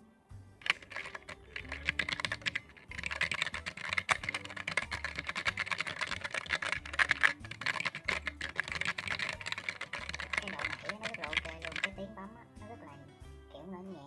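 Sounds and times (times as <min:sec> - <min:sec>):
mechanical keyboard typing: 0:00.6 - 0:12.0.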